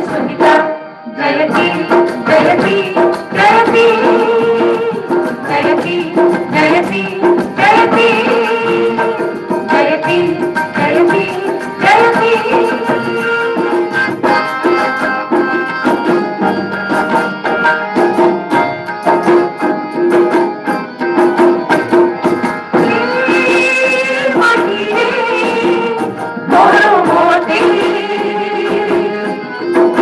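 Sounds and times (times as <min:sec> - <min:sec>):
harmonium and keyboard notes: 0:00.0 - 0:30.0
tabla playing fast strokes: 0:00.0 - 0:30.0.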